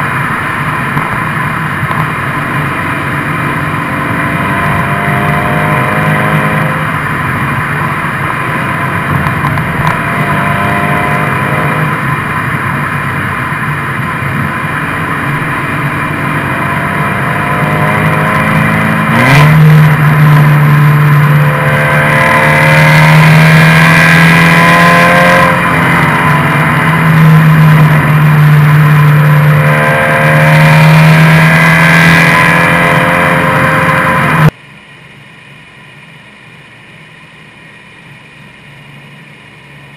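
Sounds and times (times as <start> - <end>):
car exhaust revving: 0.0 - 34.6.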